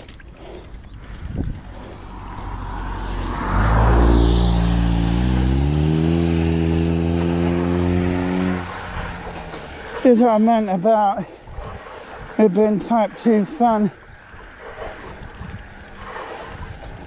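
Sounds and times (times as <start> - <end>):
vehicle engine accelerating: 0.0 - 10.6, 13.2 - 17.0.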